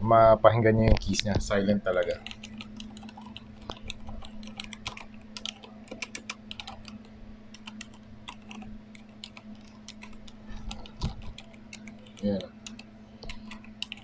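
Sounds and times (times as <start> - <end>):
low steady hum: 0.0 - 14.0
soft mechanical keyboard typing: 2.0 - 14.0.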